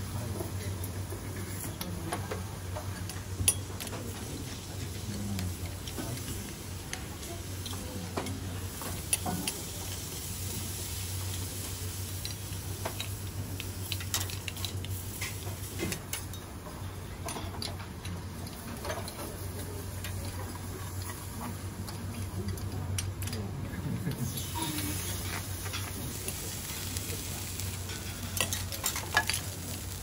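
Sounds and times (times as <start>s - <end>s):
sizzling on a steel griddle: 0.0s - 17.5s, 18.2s - 23.4s, 24.0s - 30.0s.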